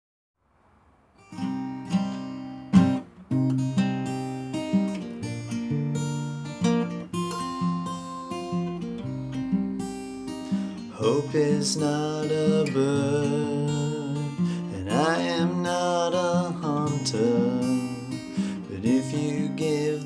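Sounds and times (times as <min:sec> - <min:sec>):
acoustic guitar strummed chords: 0:01.2 - 0:20.0.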